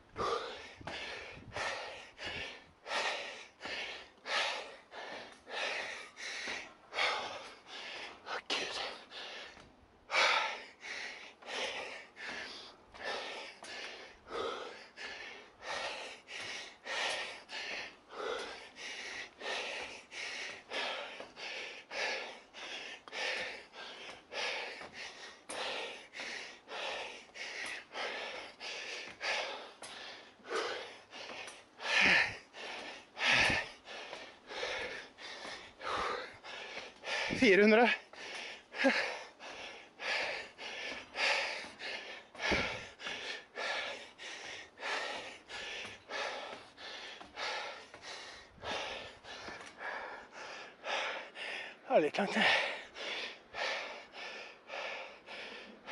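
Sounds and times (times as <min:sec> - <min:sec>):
person panting hard: 0:00.0 - 0:55.9.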